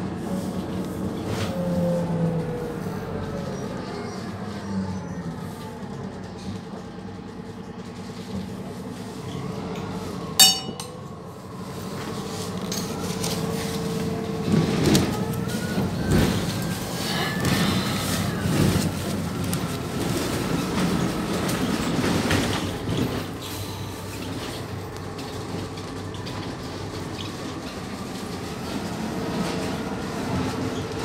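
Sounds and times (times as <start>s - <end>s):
bus diesel engine running: 0.0s - 31.0s.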